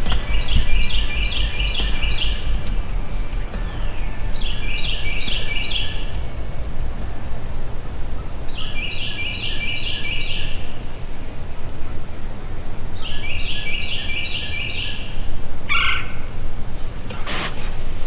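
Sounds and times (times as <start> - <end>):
songbird singing: 0.0 - 18.0
steady low rumble: 0.0 - 18.0.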